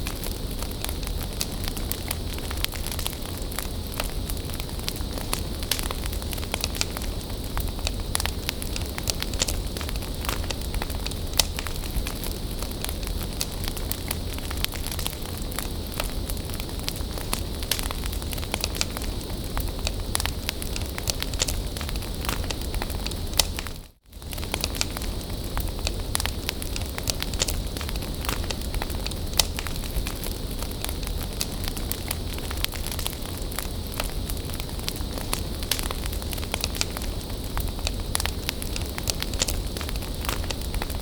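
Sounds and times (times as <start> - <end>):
bonfire crackling and hissing: 0.0 - 41.0.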